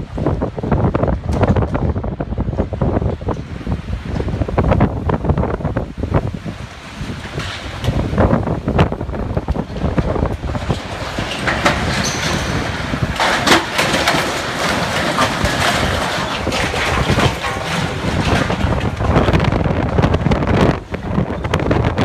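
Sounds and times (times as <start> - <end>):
storm wind buffeting microphone: 0.0 - 22.0
cracks and clatters: 1.1 - 4.8, 6.6 - 22.0.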